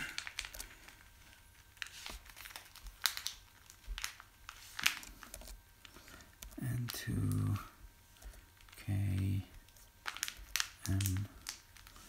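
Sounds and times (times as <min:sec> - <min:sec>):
plastic bag crinkling: 0:00.0 - 0:07.0, 0:07.6 - 0:12.0.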